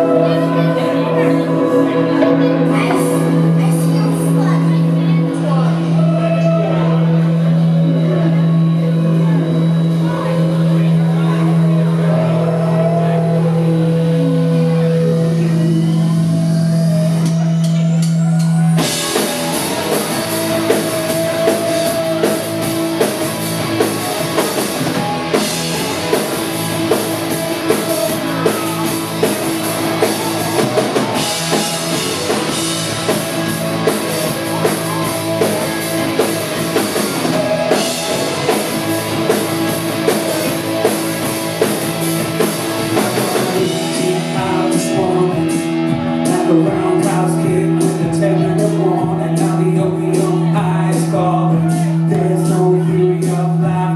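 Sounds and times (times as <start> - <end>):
held low drone: 0.0 - 47.0
rock band playing: 0.0 - 53.9.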